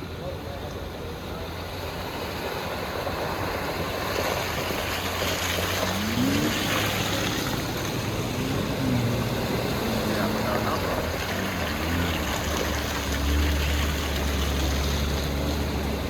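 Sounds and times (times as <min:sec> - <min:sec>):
rushing water: 0:00.0 - 0:16.0
vehicle engine revving: 0:01.3 - 0:16.0.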